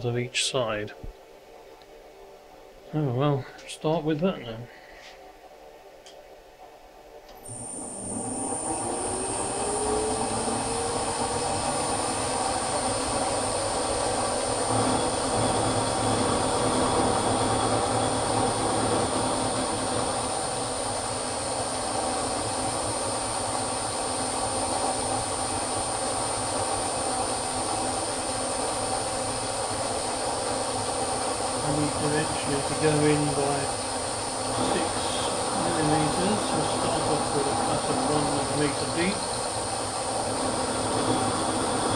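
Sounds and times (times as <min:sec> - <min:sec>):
milling machine spindle whine: 0:07.4 - 0:41.9.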